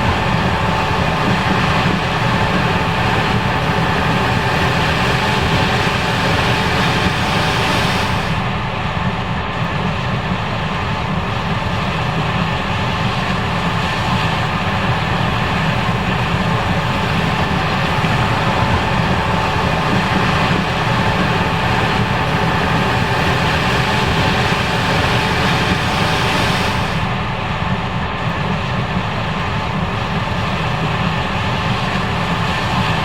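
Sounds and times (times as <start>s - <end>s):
combine harvester engine droning: 0.0s - 33.0s.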